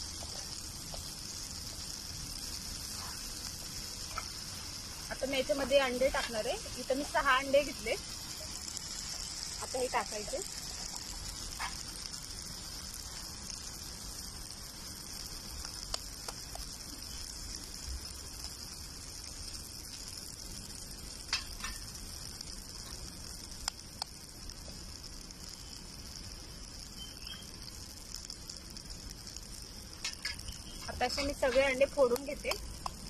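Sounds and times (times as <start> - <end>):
eggshells cracking: 0.0 - 33.0
food sizzling in hot oil: 0.0 - 33.0.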